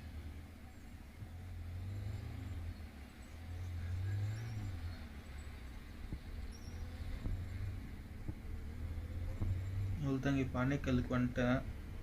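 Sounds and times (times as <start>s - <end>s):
motorcycle engine rumble: 0.0s - 12.0s
road traffic: 0.0s - 12.0s.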